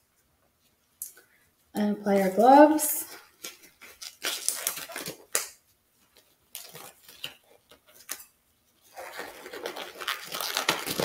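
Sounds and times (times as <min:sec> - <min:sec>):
rubber gloves rustling and stretching: 0:00.0 - 0:11.0.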